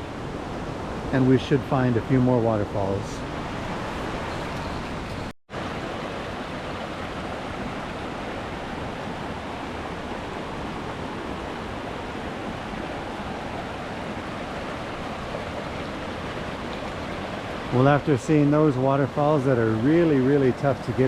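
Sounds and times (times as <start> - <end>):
waterfall rushing: 1.0 - 21.0.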